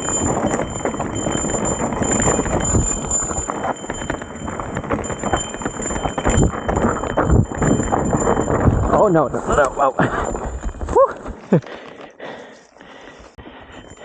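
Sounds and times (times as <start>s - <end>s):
bike rattling over bumps: 0.0s - 12.1s
tyres crunching over loose ground: 0.0s - 14.0s.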